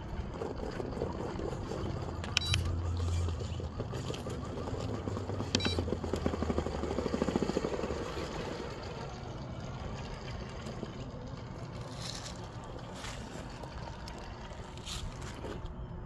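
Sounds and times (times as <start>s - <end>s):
rc truck motor running: 0.0s - 16.0s.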